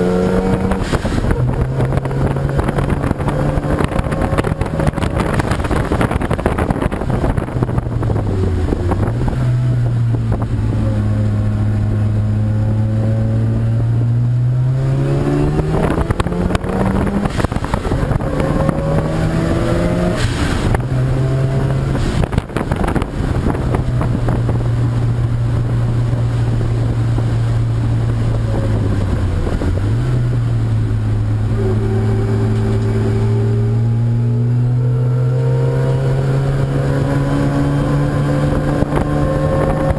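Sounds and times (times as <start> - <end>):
racing car engine revving: 0.0 - 39.9
wind noise on microphone: 0.0 - 39.9.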